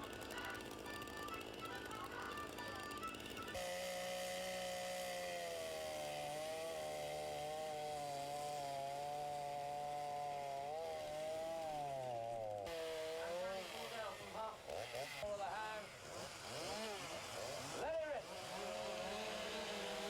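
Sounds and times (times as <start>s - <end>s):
chainsaw carving wood: 0.0s - 20.0s.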